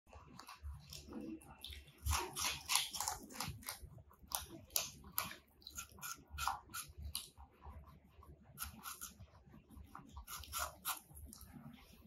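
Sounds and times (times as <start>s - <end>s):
rabbit crunching apple: 0.1s - 12.0s.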